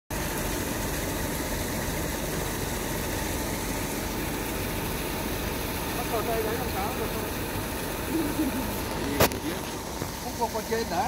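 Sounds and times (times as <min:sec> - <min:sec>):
truck engine idling: 0:00.1 - 0:11.0.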